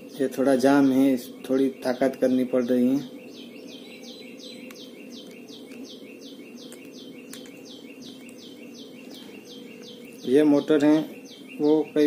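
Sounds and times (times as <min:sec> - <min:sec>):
bird chirping: 0:00.0 - 0:12.0
low background hum: 0:00.0 - 0:12.0.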